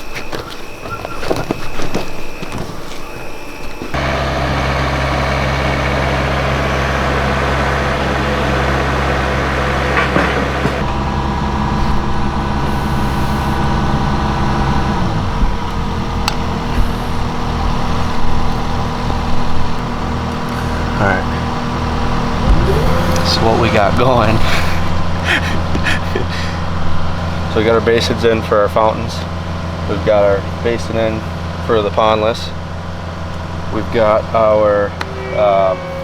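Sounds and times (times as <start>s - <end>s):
heavy engine running: 3.8s - 36.0s.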